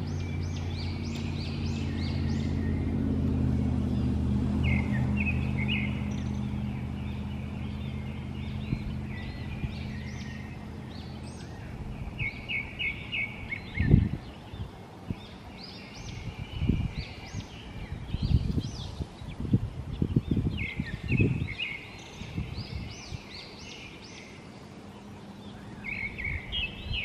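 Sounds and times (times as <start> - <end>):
low engine hum: 0.0 - 27.0
songbirds chirping: 0.0 - 27.0.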